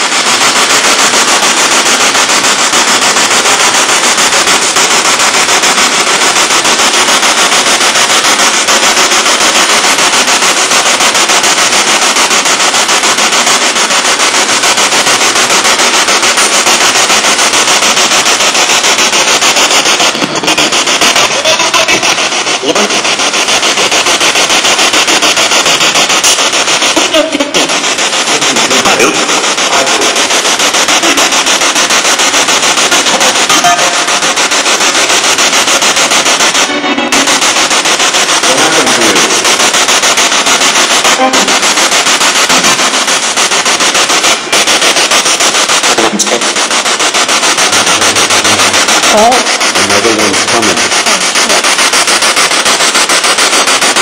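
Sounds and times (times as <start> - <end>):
harsh radio static chopping: 0.0 - 54.0
snatches of broadcast sound: 0.0 - 54.0.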